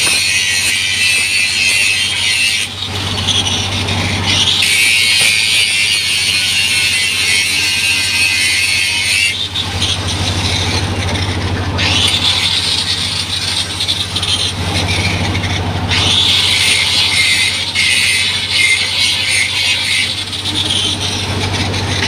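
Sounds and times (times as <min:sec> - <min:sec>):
angle grinder grinding: 0:00.0 - 0:22.0.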